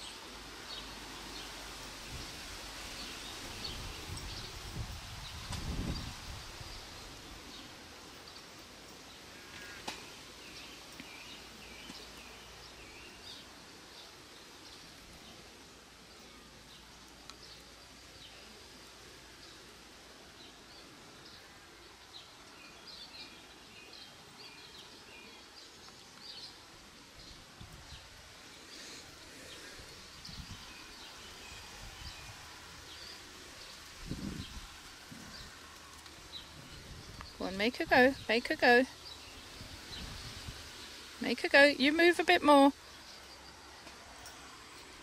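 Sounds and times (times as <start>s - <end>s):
birds chirping: 2.9s - 45.0s.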